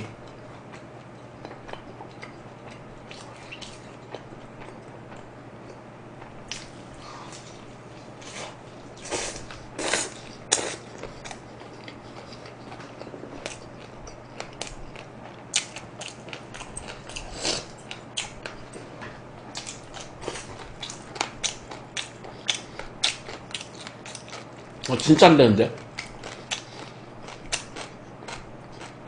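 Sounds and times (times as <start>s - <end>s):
low steady hum: 0.0s - 29.0s
person chewing food: 0.1s - 25.0s, 25.8s - 29.0s.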